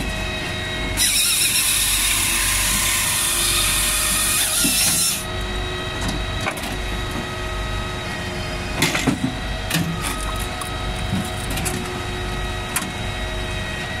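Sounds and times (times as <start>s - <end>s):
firewood processor humming: 0.0s - 14.0s.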